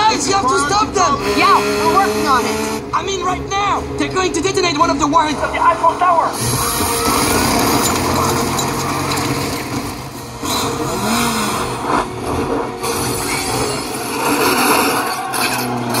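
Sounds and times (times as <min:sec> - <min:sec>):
action film soundtrack: 0:00.0 - 0:16.0
vehicle engines: 0:00.0 - 0:16.0.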